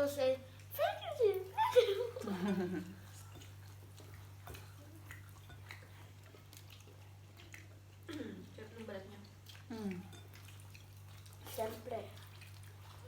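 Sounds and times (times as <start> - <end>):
soft chewing: 0.4 - 13.0.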